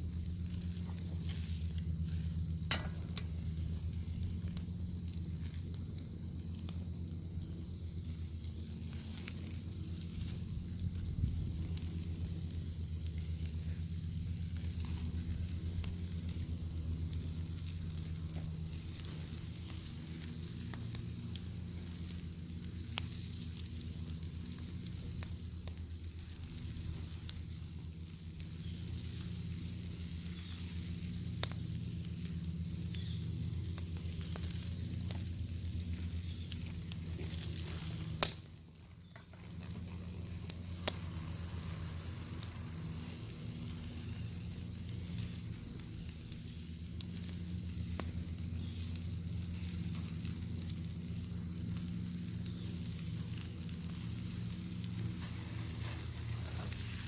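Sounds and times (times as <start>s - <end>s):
bacon sizzling: 0.0s - 57.0s
fire low rumble: 0.0s - 57.0s
wood fire crackling: 0.0s - 57.0s.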